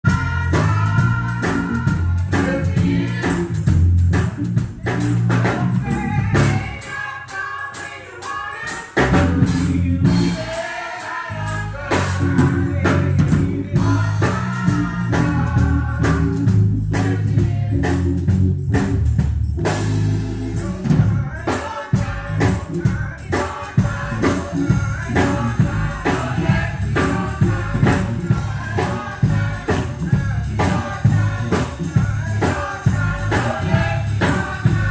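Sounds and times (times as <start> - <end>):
gospel singing: 0.0 - 19.0, 19.6 - 34.9
band with bass and drums: 0.0 - 34.9.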